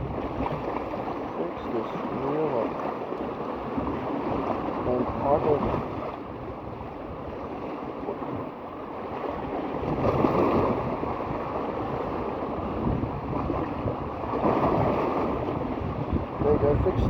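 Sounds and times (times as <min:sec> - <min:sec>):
wind buffeting microphone: 0:00.0 - 0:02.4, 0:03.3 - 0:17.0
waves washing on shore: 0:00.0 - 0:17.0.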